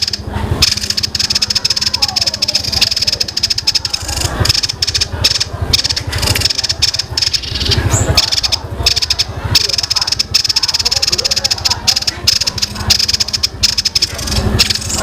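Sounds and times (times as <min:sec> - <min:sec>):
songbird chattering song: 0:00.0 - 0:15.0.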